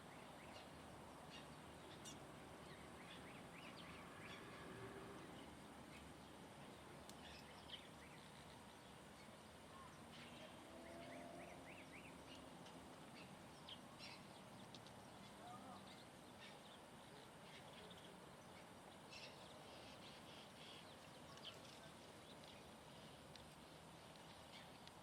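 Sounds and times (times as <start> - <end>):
small birds chirping: 0.0 - 25.0
steady background hiss: 0.0 - 25.0.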